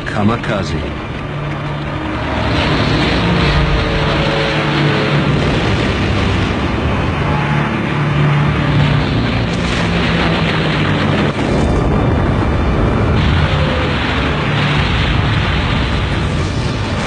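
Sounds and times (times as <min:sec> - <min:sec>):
dense loud rumble: 0:00.0 - 0:17.0
piston aircraft engine droning: 0:00.0 - 0:17.0.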